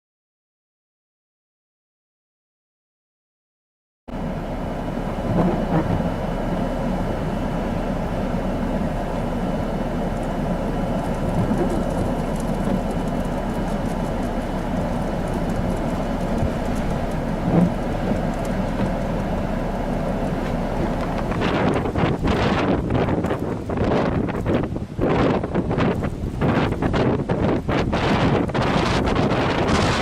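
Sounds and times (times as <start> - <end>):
blizzard wind blowing: 4.1 - 30.0
wind buffeting microphone: 4.8 - 30.0.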